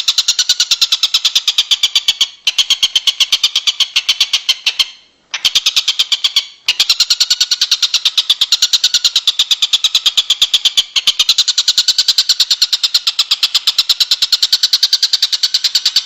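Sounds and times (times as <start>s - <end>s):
songbird ticking chatter: 0.0s - 16.0s.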